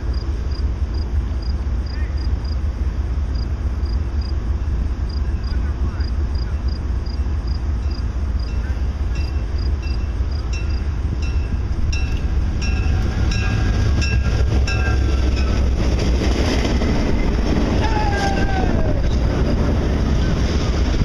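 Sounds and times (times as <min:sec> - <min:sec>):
diesel locomotive engines rumbling: 0:00.0 - 0:21.0.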